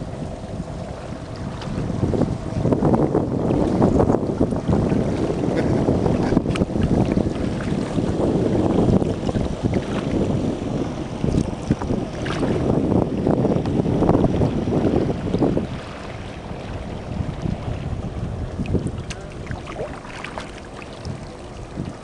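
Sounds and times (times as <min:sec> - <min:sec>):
faint water splashes: 0:00.0 - 0:22.0
wind buffeting microphone: 0:00.0 - 0:22.0.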